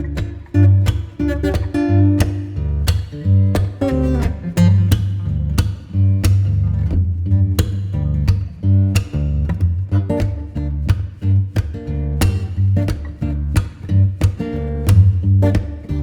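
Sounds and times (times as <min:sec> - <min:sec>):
steady beat: 0:00.0 - 0:16.0
strong bass: 0:00.0 - 0:16.0
strummed guitar: 0:00.0 - 0:16.0.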